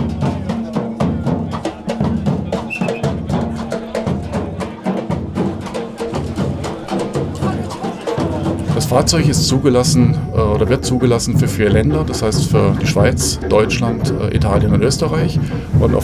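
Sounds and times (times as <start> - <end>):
bass drums and snare drum: 0.0 - 16.0.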